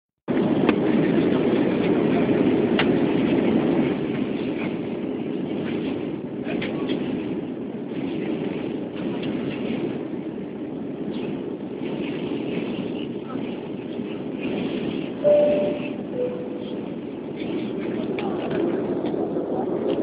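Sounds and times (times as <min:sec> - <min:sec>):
airliner cabin roar: 0:00.3 - 0:20.0.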